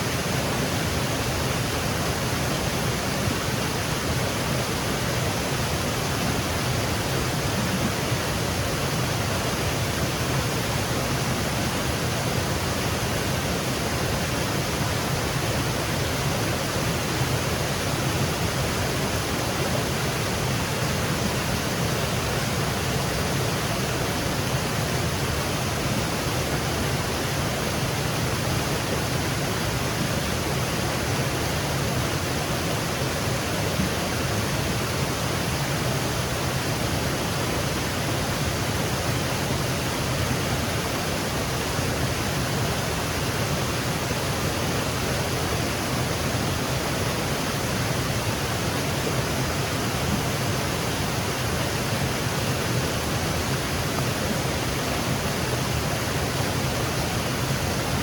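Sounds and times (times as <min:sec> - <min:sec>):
waterfall over rocks: 0:00.0 - 0:58.0.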